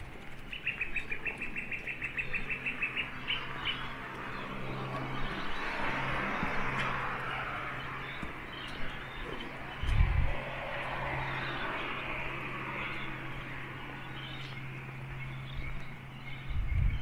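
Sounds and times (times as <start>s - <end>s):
bird chirping: 0.0s - 17.0s
steady rushing noise: 0.0s - 17.0s.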